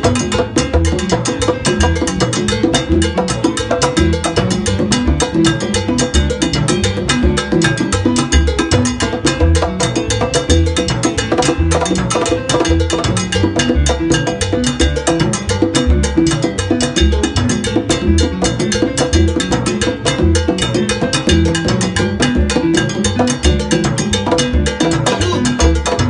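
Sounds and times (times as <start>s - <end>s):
congas slapping: 0.0s - 26.0s
live salsa music: 0.0s - 26.0s
low bass line: 0.0s - 26.0s.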